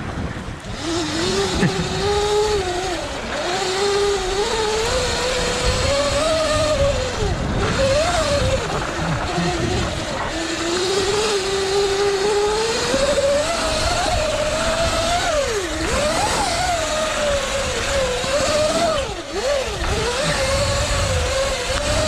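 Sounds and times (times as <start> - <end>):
electric motor whining: 0.0 - 22.0
wind and tyres on dirt: 0.0 - 22.0.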